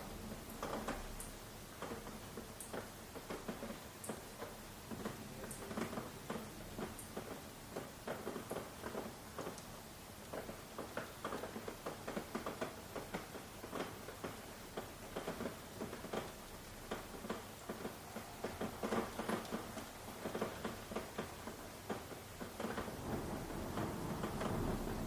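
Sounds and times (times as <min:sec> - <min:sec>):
faint hiss of rain: 0:00.0 - 0:25.0
rain drops tapping: 0:00.0 - 0:25.0.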